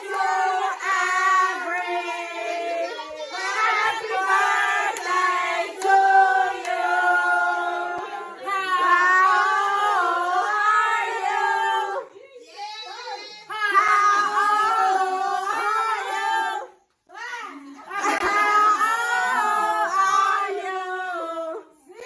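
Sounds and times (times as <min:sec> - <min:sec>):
group of people singing: 0:00.0 - 0:12.3, 0:13.4 - 0:16.9, 0:17.8 - 0:22.0.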